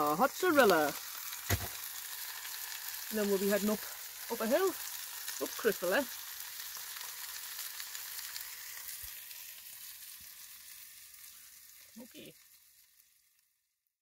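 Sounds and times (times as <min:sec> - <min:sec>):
patties sizzling in a frying pan: 0:00.0 - 0:14.0.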